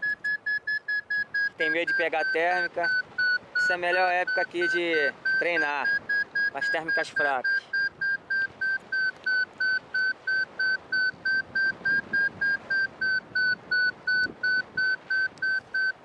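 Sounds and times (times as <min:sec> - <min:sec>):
short electronic beeps: 0:00.0 - 0:16.0.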